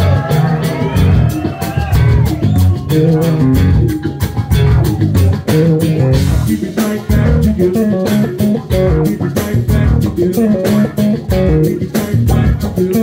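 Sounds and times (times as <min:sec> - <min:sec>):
blues-rock band playing: 0:00.0 - 0:13.0.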